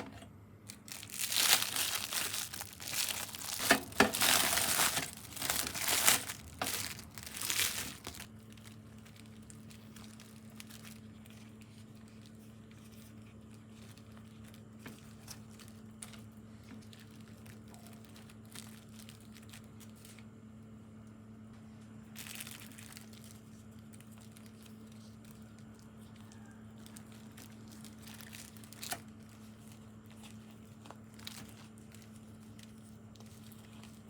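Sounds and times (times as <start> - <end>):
faint steady hum: 0.0 - 34.0
plastic cling wrap crinkling: 0.6 - 20.3, 21.9 - 34.0.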